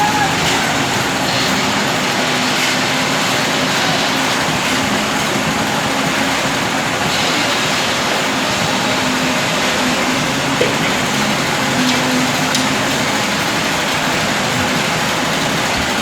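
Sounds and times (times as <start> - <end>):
loud rush of noise: 0.0 - 16.0
machine engine humming: 0.0 - 16.0.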